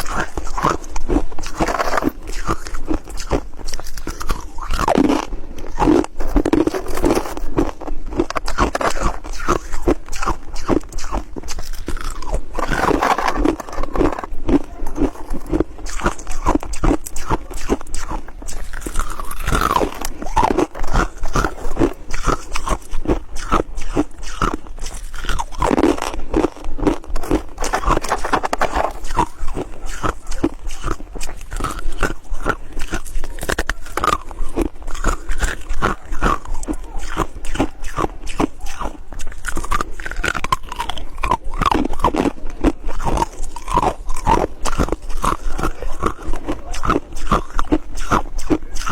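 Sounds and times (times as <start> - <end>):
ice crunching being chewed: 0.0 - 48.9.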